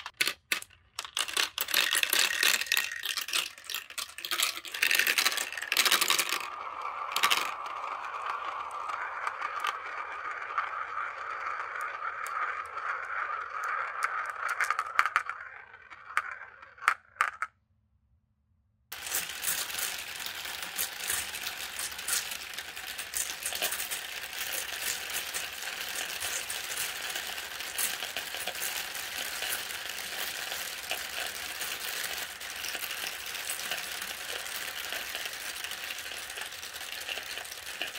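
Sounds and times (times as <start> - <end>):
many marbles clattering together: 0.0 - 17.5, 18.9 - 37.9
marbles clacking through hole: 0.0 - 17.5, 18.9 - 37.9
marbles rolling in plastic bowl: 0.0 - 17.5, 18.9 - 37.9.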